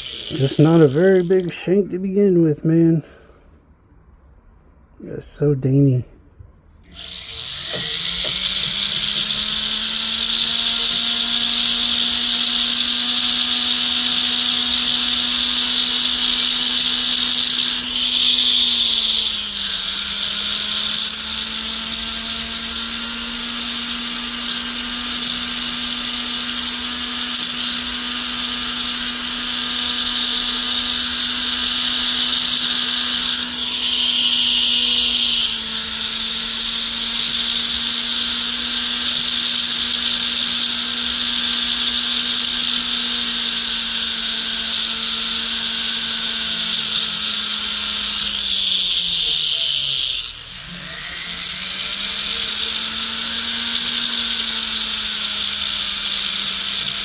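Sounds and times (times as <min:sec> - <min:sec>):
rotary tool grinding metal: 0:00.0 - 0:02.6, 0:06.8 - 0:57.0.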